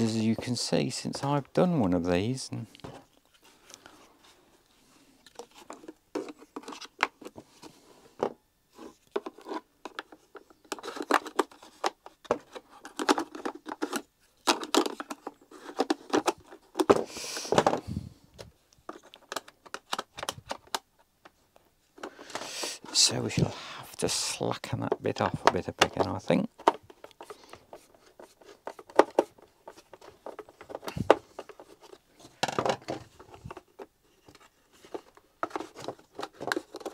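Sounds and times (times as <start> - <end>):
plastic parts clicking and knocking: 5.2 - 23.4, 24.6 - 36.9.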